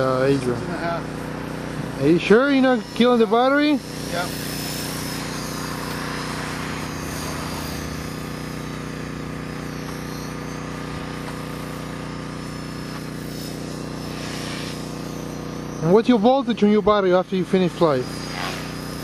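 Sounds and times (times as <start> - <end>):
electric motor whine: 0.0 - 19.0
rotor blades humming: 0.0 - 19.0.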